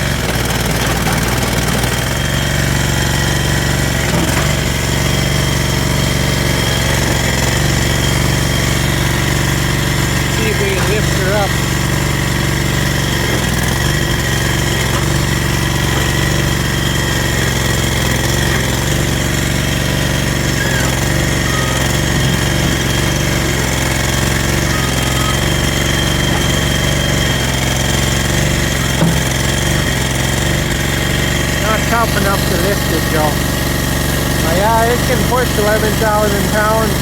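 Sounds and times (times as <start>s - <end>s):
mini dozer engine under load: 0.0s - 37.0s.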